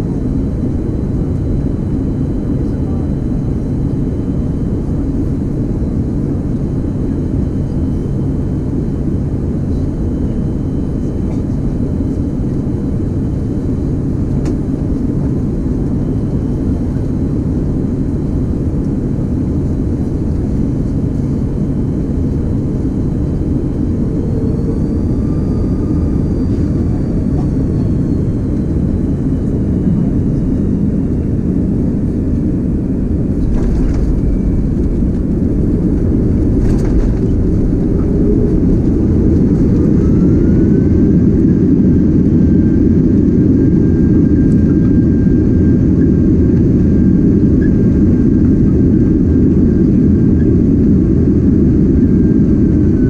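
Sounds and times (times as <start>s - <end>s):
aircraft cabin engine rumble: 0.0s - 53.0s
faint whine: 0.0s - 53.0s.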